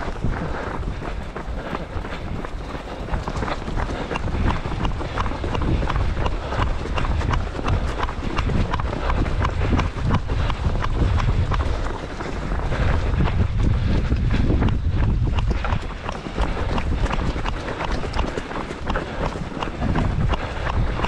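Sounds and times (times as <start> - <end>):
running footfalls: 0.0 - 21.0
wind buffeting microphone: 0.0 - 21.0.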